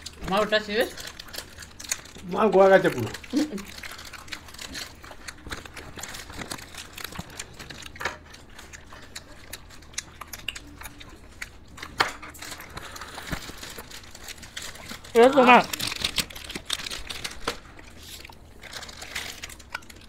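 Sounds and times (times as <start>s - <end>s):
plastic wrappers crinkling: 0.0s - 20.0s.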